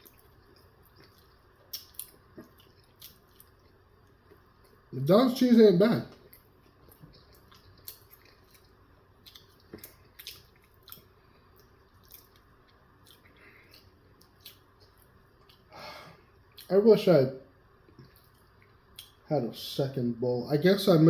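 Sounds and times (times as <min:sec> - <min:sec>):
chewing and wet mouth sounds: 0:00.0 - 0:04.9, 0:06.1 - 0:16.7, 0:17.7 - 0:19.2.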